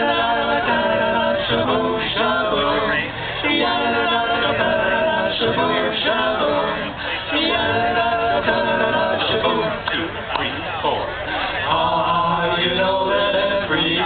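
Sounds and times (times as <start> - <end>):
men's a cappella group singing: 0.0 - 14.0.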